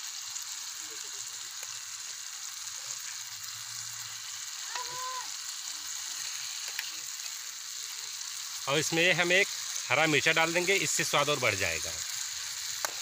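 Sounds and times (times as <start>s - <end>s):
gravy sizzling and bubbling in pan: 0.0s - 13.0s.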